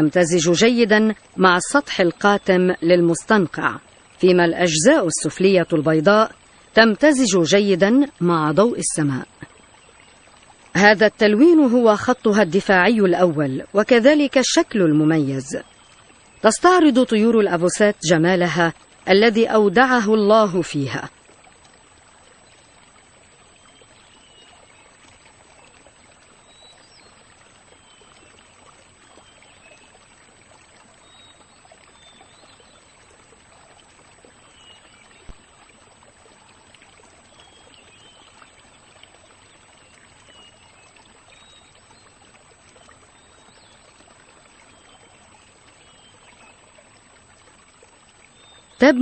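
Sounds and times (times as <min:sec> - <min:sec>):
trickling water: 0:00.0 - 0:49.0.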